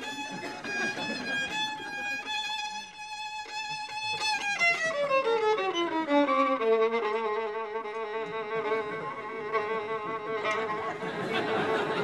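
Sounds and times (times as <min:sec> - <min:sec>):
solo violin playing: 0:00.0 - 0:12.0.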